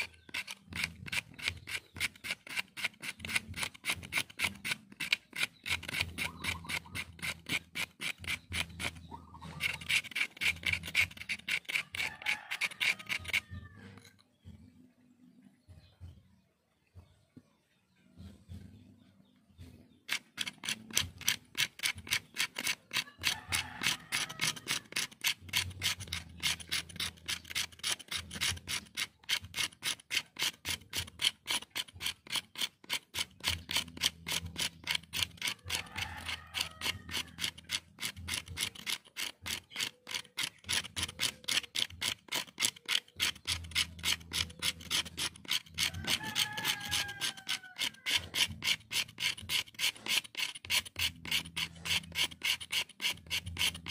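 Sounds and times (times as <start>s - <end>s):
knife scraping wood: 0.0s - 14.7s, 18.2s - 53.9s.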